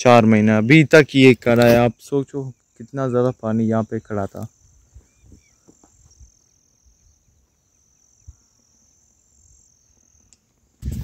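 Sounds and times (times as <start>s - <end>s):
insect trill: 0.0s - 11.0s.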